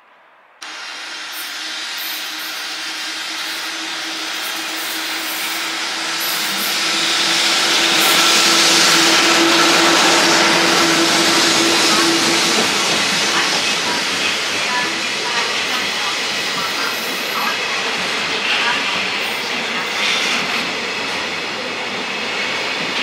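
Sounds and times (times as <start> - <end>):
train passing close by: 0.0 - 23.0.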